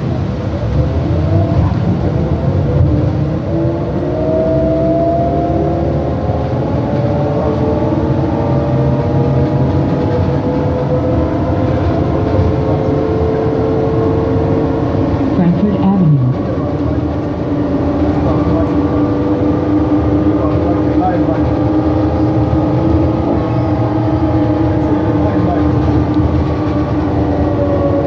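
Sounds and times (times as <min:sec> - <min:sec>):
road and tyre rumble: 0:00.0 - 0:28.0.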